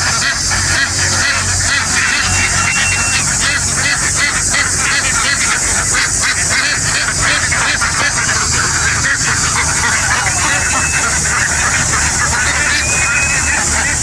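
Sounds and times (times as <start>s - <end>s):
flock of ducks quacking: 0.0s - 14.0s
low steady hum: 0.0s - 14.0s.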